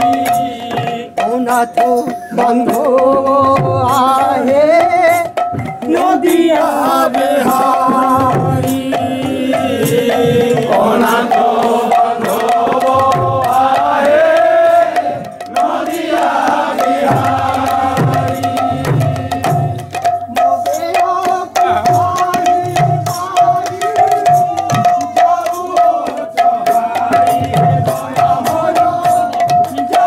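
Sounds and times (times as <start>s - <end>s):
barrel drum played by hand: 0.0s - 30.0s
men singing together: 0.0s - 30.0s.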